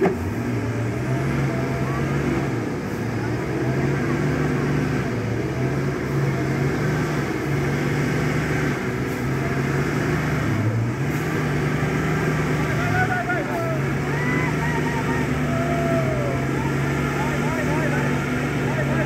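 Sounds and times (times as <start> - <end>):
bus diesel engine under load: 0.0 - 19.0.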